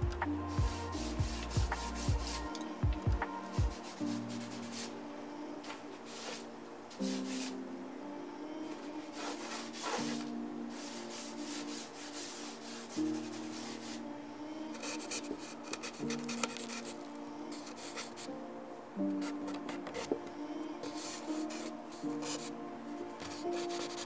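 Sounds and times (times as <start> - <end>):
soft music with held chords: 0.0 - 24.0.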